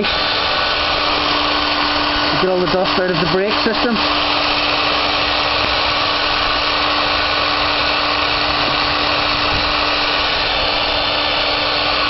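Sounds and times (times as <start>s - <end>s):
drill wire brush whirring: 0.0s - 12.0s.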